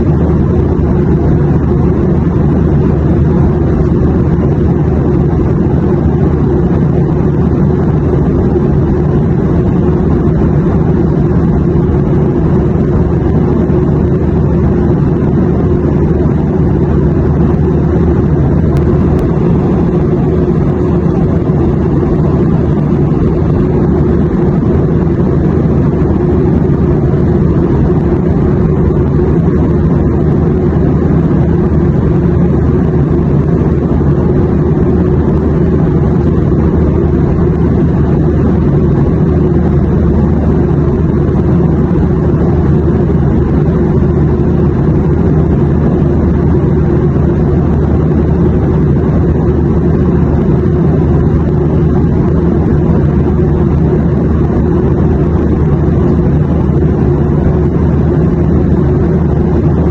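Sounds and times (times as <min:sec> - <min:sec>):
airplane rumble: 0:00.0 - 0:59.9.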